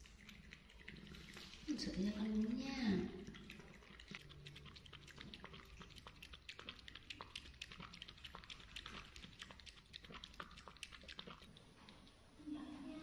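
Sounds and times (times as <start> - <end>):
cat lapping liquid: 0.0 - 12.3.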